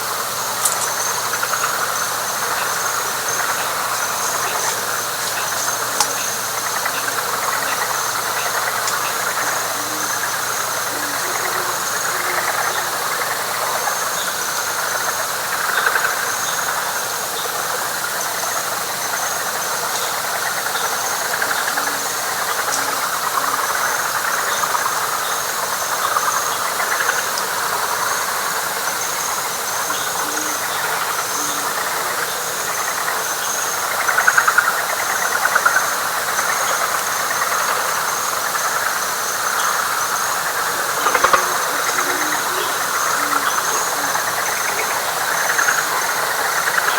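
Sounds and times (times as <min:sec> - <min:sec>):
frogs trilling: 0:00.0 - 0:46.9.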